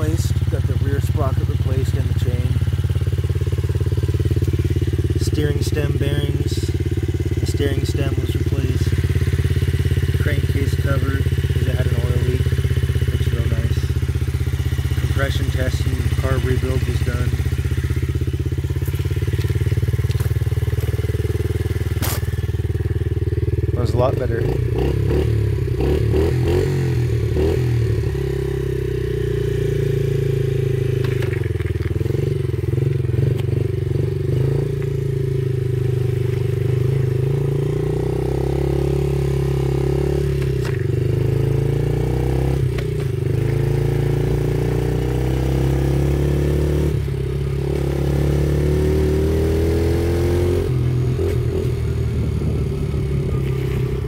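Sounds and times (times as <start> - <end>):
small motorbike engine revving: 0.0 - 54.0.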